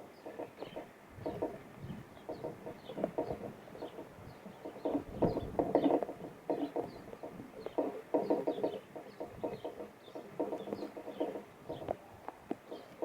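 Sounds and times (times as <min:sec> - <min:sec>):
low rapid clucking calls: 0:00.0 - 0:13.0
small birds chipping: 0:00.0 - 0:13.0.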